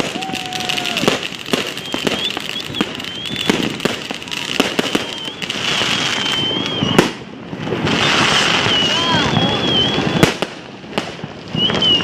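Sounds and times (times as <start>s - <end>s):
fireworks bangs and crackling: 0.0s - 12.0s
high wavering firework whistle: 0.0s - 12.0s.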